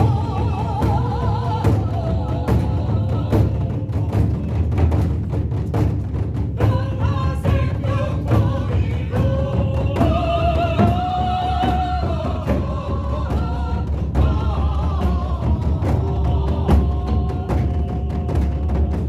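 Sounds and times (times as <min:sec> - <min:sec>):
drum beaten in steady rhythm: 0:00.0 - 0:19.0.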